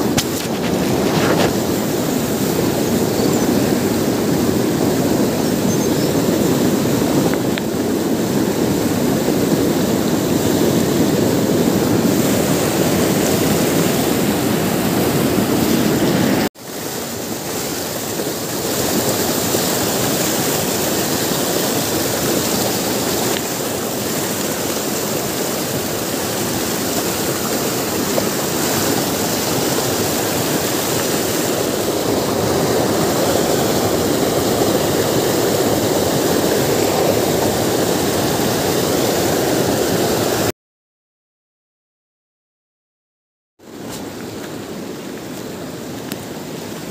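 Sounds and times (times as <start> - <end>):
river rushing over boulders: 0.0 - 40.5, 43.7 - 46.9.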